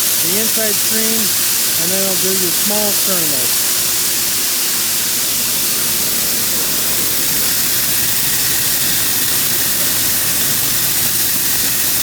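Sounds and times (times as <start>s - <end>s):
faint machine hum: 0.0s - 12.0s.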